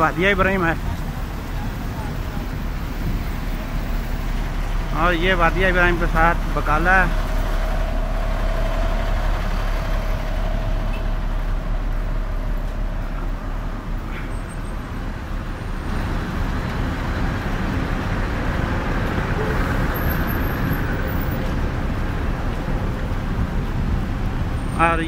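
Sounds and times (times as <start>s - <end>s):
street traffic noise: 0.0s - 25.0s.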